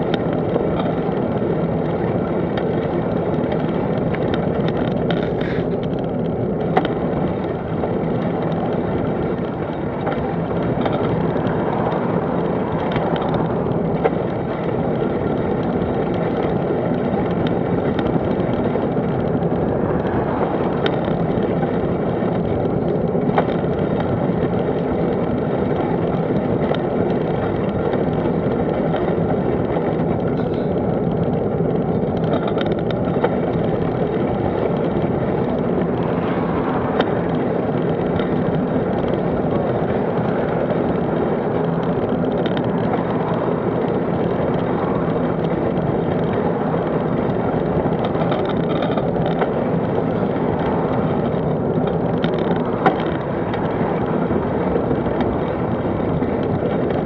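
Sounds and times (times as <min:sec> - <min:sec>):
oncoming traffic passing: 0:00.0 - 0:57.0
road and wind noise: 0:00.0 - 0:57.0.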